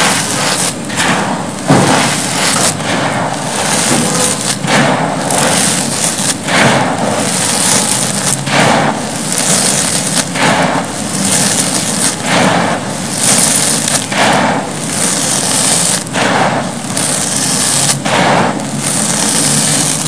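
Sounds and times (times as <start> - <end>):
cement powder crunching in hands: 0.0 - 20.0
powder pouring onto floor: 0.0 - 20.0.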